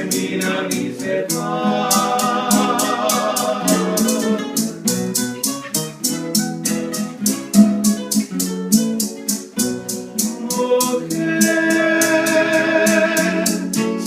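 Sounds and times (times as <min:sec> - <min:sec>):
maracas shaking: 0:00.0 - 0:14.0
picked acoustic guitar melody: 0:00.0 - 0:14.0
strummed guitar chords: 0:00.0 - 0:14.0.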